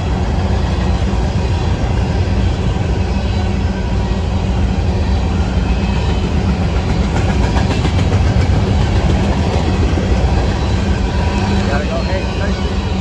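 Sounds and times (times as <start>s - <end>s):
diesel locomotive idling: 0.0s - 13.0s.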